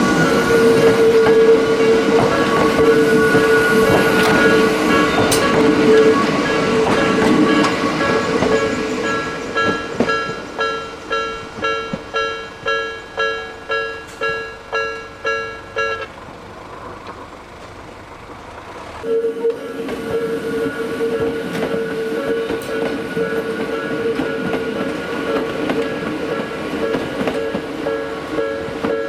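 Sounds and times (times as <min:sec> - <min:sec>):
train passing: 0:00.0 - 0:29.0.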